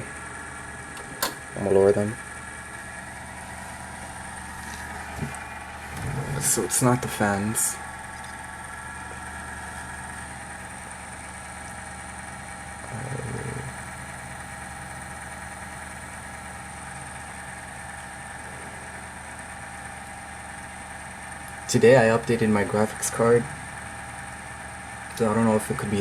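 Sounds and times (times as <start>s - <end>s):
computer humming: 0.0s - 26.0s.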